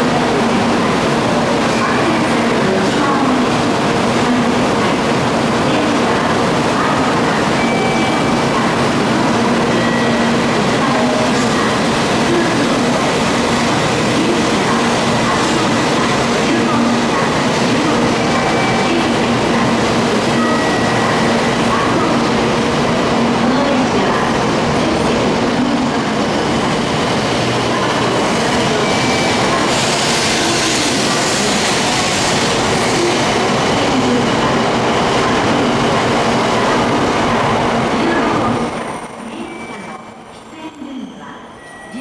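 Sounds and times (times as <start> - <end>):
train running noise: 0.0 - 42.0.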